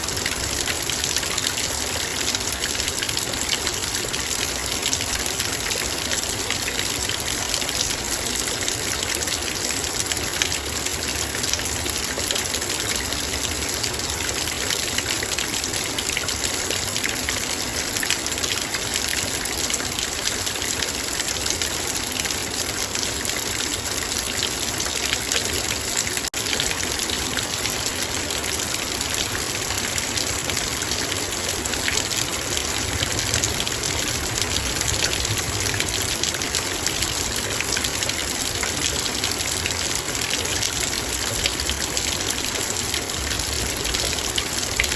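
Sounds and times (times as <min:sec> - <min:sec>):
heavy rain on a metal bowl: 0:00.0 - 0:44.9.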